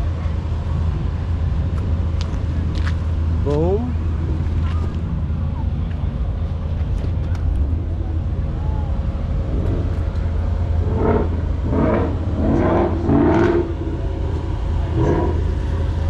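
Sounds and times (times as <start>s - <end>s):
car engine running: 0.0s - 16.0s
voices: 2.3s - 16.0s.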